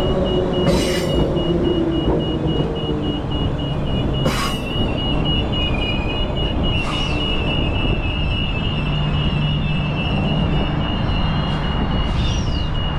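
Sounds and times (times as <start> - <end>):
electric train rumbling on rails: 0.0 - 12.9
high pulsing wheel squeal: 0.0 - 12.9.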